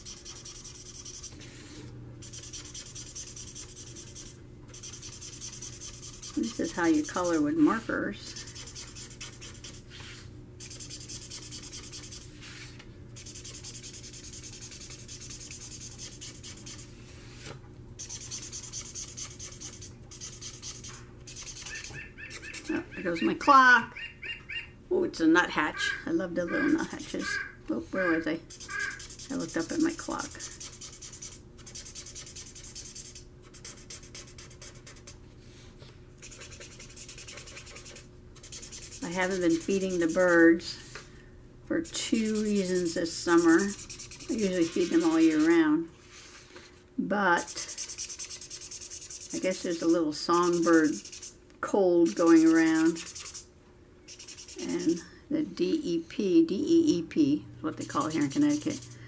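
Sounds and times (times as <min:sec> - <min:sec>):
marker scrubbing on paper: 0:00.0 - 0:17.4, 0:18.0 - 0:23.4, 0:26.5 - 0:35.2, 0:36.2 - 0:41.0, 0:41.8 - 0:46.4, 0:47.4 - 0:51.4, 0:52.0 - 0:53.5, 0:54.1 - 0:55.0, 0:57.8 - 0:59.0.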